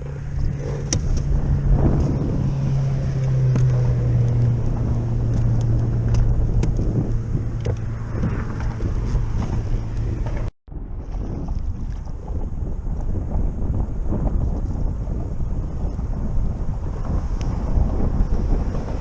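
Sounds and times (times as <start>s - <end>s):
traffic drone on bridge: 0.0s - 11.0s, 12.0s - 19.0s
wind buffeting microphone: 0.0s - 19.0s.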